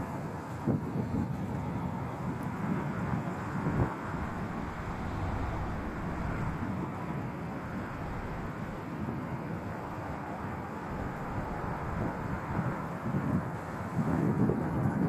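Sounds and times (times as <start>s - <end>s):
wind buffeting microphone: 0.7s - 15.0s.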